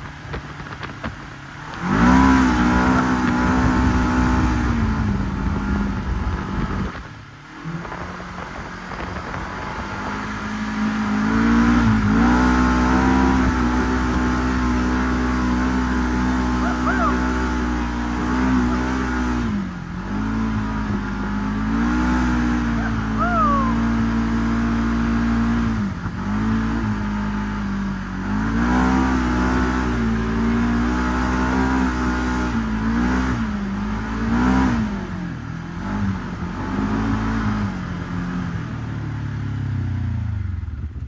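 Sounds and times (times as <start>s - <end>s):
engine revving: 1.6s - 6.9s, 7.6s - 38.6s.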